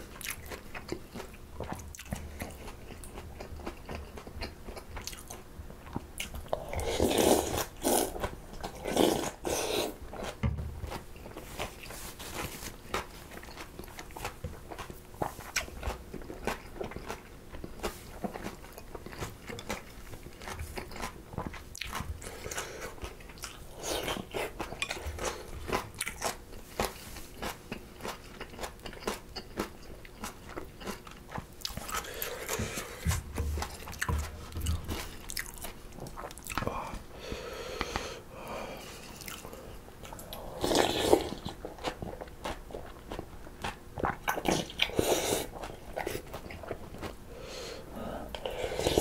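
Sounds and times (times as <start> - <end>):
chewing and crunching food: 0.0 - 49.0.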